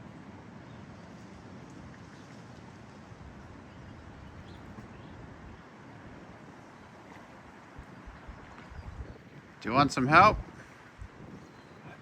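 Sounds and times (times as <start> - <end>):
river flowing: 0.0 - 12.0
wind: 0.0 - 12.0.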